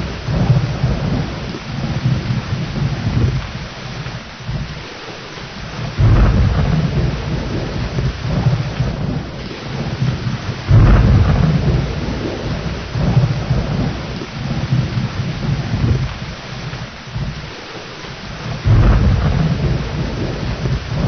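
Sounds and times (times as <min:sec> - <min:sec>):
rolling thunder: 0:00.0 - 0:04.9, 0:05.6 - 0:17.6, 0:18.4 - 0:21.0
steady rain: 0:00.0 - 0:21.0.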